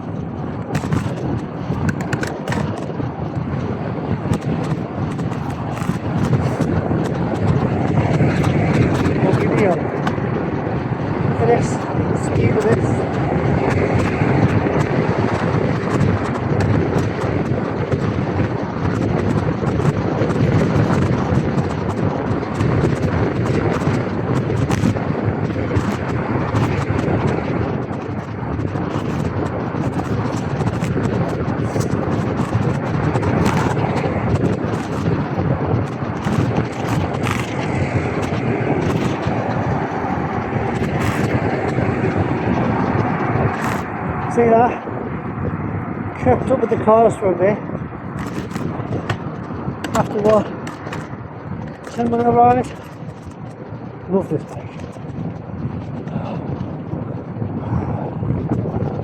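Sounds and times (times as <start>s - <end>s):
tyre and road noise on wet tarmac: 0.0s - 57.6s
passing traffic: 0.0s - 58.9s
wind rushing over microphone: 0.0s - 59.0s.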